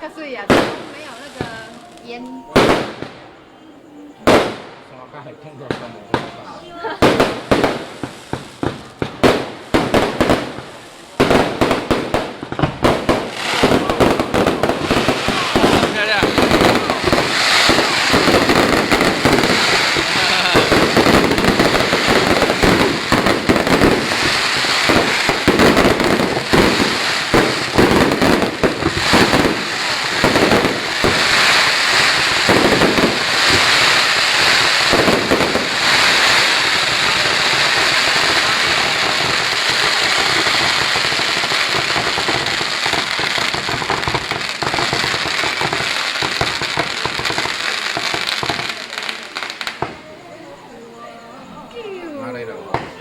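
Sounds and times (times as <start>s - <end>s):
fireworks bangs and booms: 0.0s - 53.0s
fireworks crackling: 0.0s - 53.0s.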